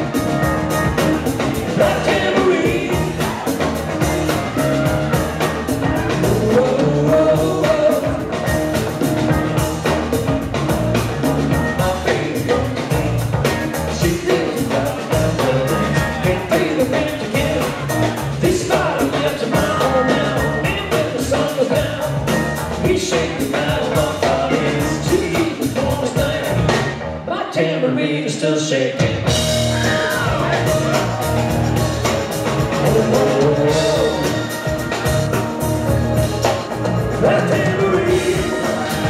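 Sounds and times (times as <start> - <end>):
live rock band playing: 0.0 - 27.3, 28.9 - 39.0
person singing: 0.0 - 35.7, 36.4 - 39.0.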